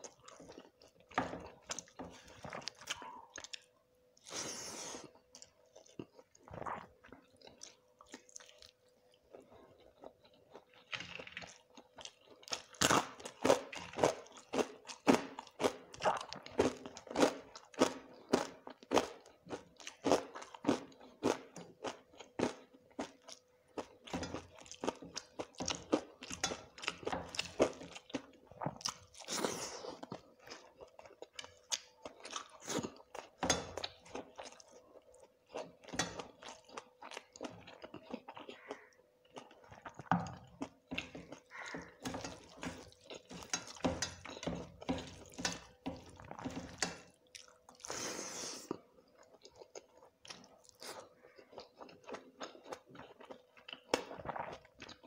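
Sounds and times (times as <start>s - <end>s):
crunching and chewing crisp food: 0.0s - 55.0s.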